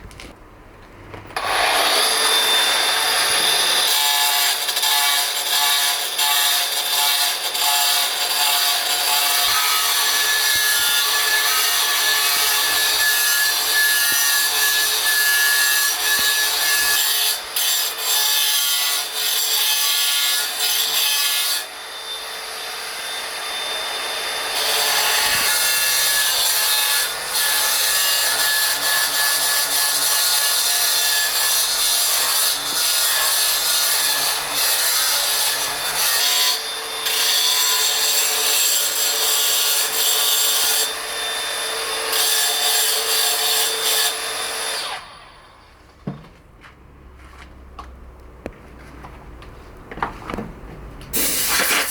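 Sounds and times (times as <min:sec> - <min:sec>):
power tool grinding stone: 0:01.4 - 0:21.8, 0:23.6 - 0:45.0.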